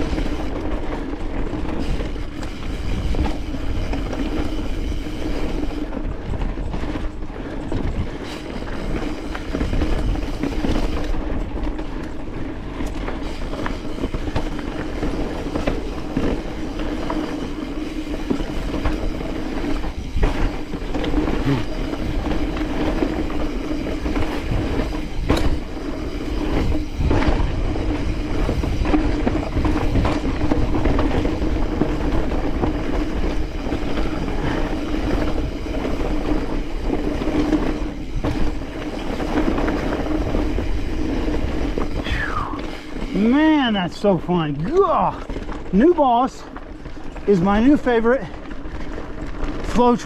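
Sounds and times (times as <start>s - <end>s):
bike knocking and rattling: 0.0s - 50.0s
bike tyres rolling on dirt: 0.0s - 50.0s.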